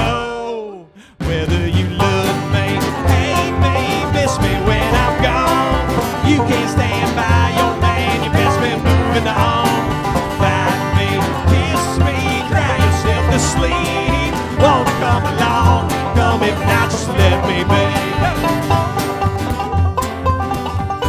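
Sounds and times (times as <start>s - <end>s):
live country band playing: 0.0s - 21.0s.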